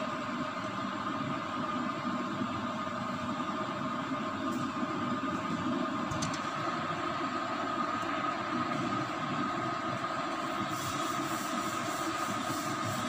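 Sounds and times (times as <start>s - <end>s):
mechanical rumble and hiss: 0.0s - 13.0s.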